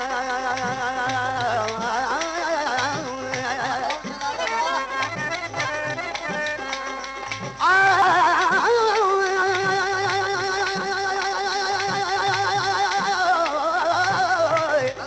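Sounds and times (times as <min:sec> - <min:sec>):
hand-drum beat: 0:00.0 - 0:15.0.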